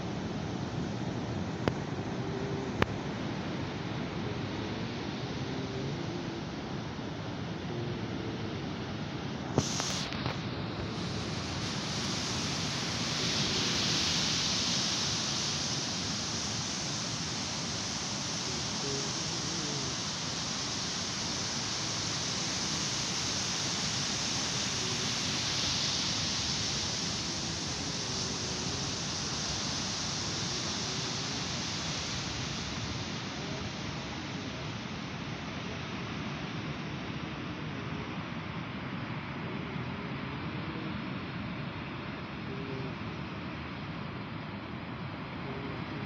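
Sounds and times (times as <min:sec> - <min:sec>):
wind rumbling on microphone: 0:00.0 - 0:43.5
waves washing up a sandy beach: 0:00.0 - 0:46.0.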